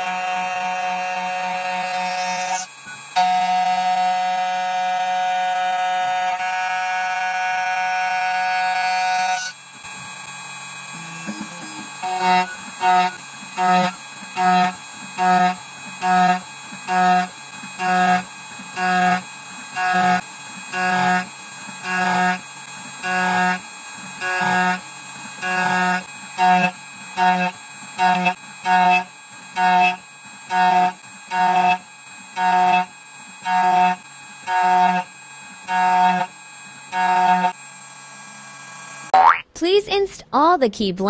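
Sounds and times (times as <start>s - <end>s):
key cutting machine motor whine: 0.0s - 39.1s.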